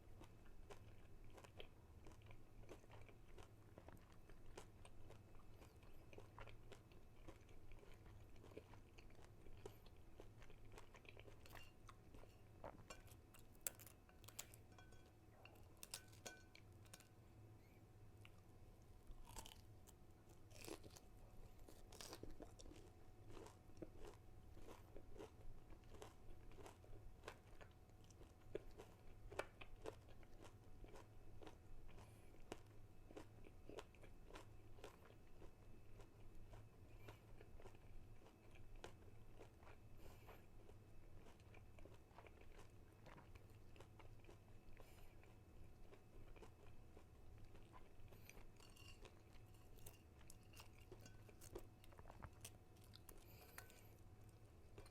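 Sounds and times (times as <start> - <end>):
crunchy food being chewed: 0.0 - 54.9.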